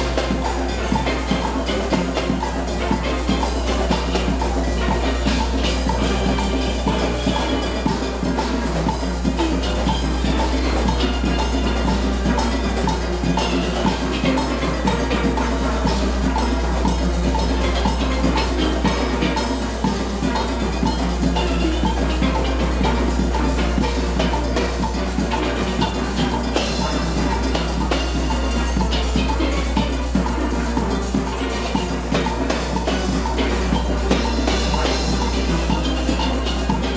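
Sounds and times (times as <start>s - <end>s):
drums and percussion beat: 0.0s - 36.9s
steel pans playing: 0.0s - 36.9s.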